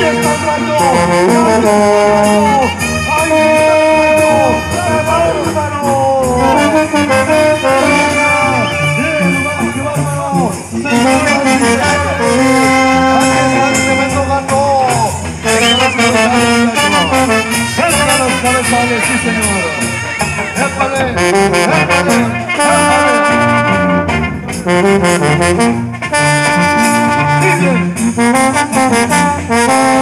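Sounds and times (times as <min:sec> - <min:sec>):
brass band playing: 0:00.0 - 0:30.0.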